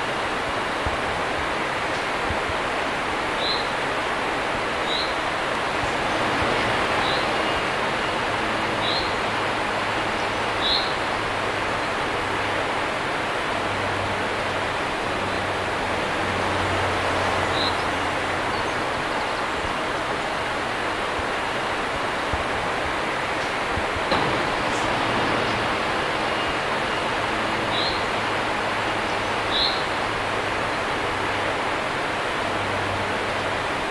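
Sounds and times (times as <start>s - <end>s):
river water rushing over weir: 0.0s - 33.9s.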